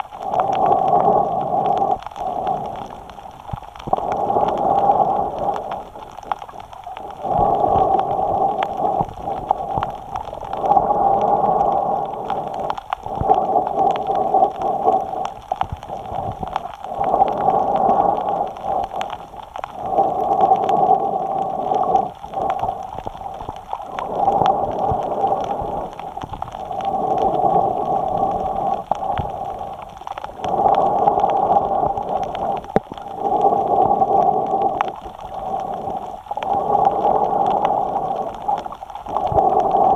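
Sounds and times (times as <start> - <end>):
breathing through snorkel tube: 0.2 - 39.9.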